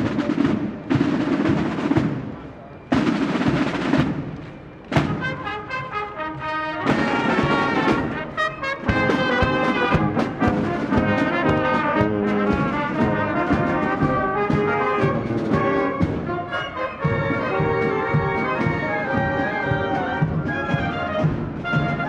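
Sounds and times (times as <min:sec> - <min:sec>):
marching band playing a march: 0:00.0 - 0:22.0.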